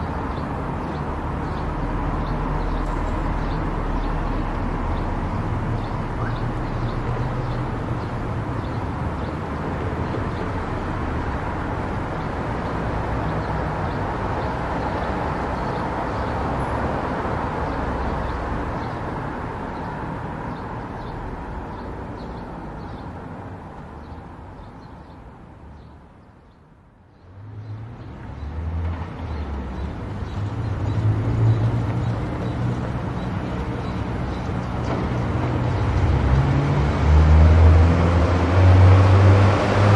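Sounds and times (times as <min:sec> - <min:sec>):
tyre and road noise: 0:00.0 - 0:39.9.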